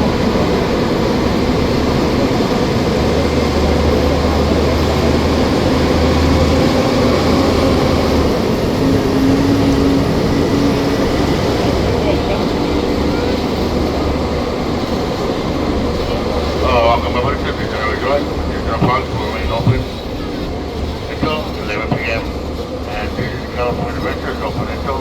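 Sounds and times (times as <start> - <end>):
tram engine and road noise: 0.0 - 25.0.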